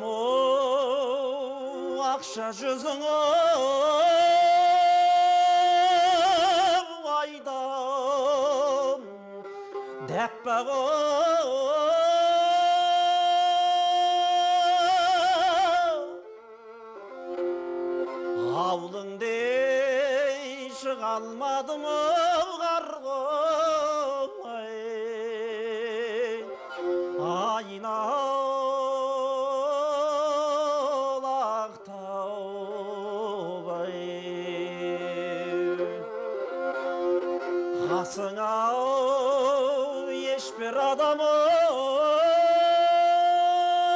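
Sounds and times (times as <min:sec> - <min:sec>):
person singing with vibrato: 0:00.0 - 0:16.4, 0:18.0 - 0:43.9
bowed string instrument: 0:00.0 - 0:43.9.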